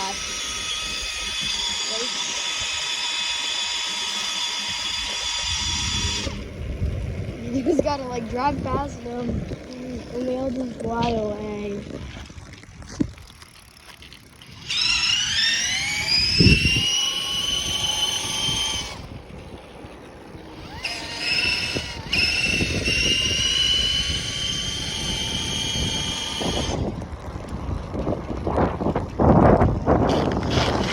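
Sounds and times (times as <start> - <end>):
electric motor whining: 0.0 - 30.9
wind: 0.0 - 30.9.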